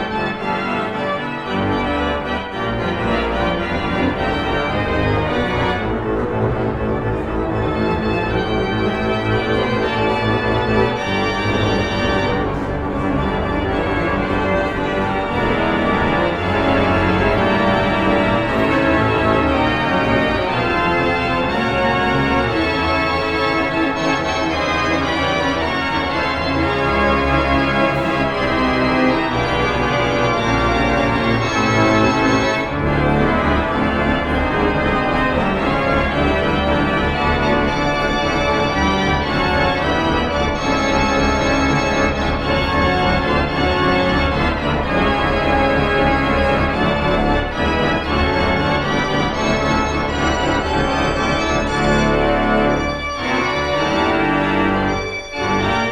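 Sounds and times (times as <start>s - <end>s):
church organ playing: 0.0s - 55.9s.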